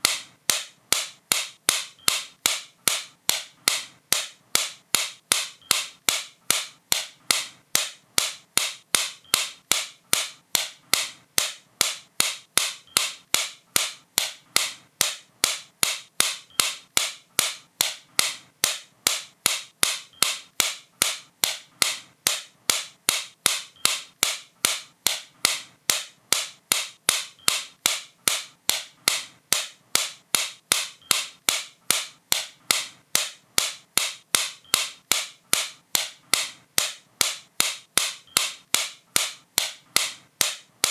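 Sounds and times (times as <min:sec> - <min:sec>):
sharp bright clicks: 0:00.0 - 0:40.9.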